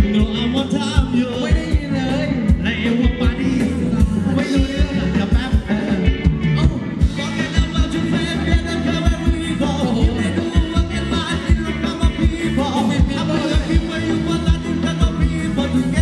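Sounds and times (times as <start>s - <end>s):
bass: 0.0s - 16.0s
live band dance music: 0.0s - 16.0s
person singing: 0.0s - 16.0s
steady drum beat: 0.0s - 16.0s.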